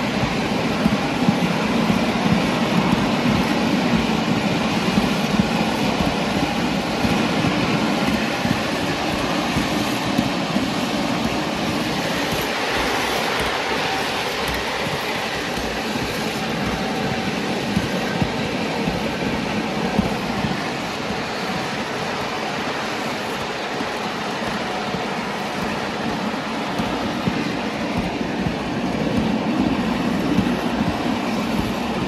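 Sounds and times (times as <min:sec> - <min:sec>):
loud clicks of wheels: 0:00.0 - 0:32.0
wheels rattling on rail: 0:00.0 - 0:32.0.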